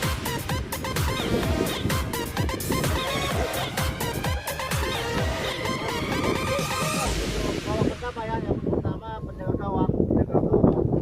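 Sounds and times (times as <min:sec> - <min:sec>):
electronic dance music: 0:00.0 - 0:08.8.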